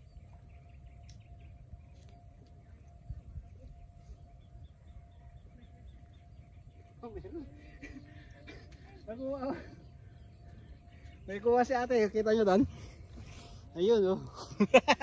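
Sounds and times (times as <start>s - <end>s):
bird chirping: 0.0s - 14.2s
faint high-pitched whine: 0.0s - 15.0s.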